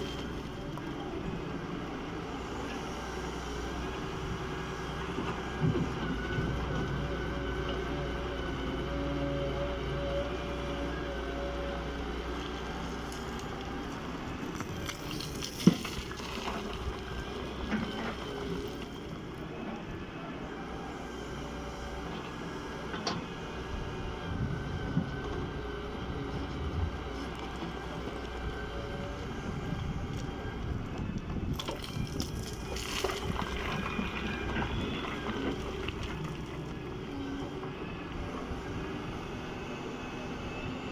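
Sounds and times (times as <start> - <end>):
excavator engine rumbling: 0.0 - 40.9.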